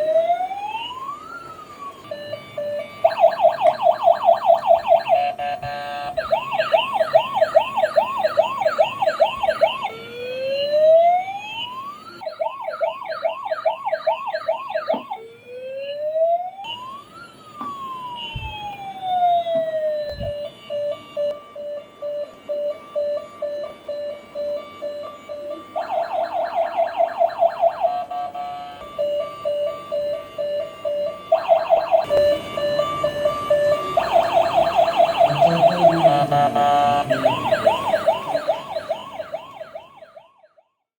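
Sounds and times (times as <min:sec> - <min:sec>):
toy electronic police siren: 0:00.0 - 0:40.9.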